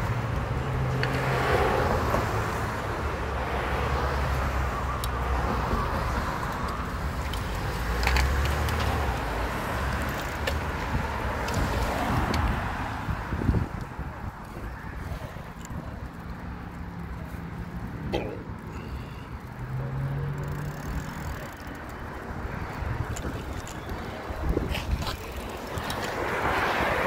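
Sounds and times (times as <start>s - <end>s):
car engines humming: 0.0s - 27.0s
cars passing: 0.0s - 27.0s.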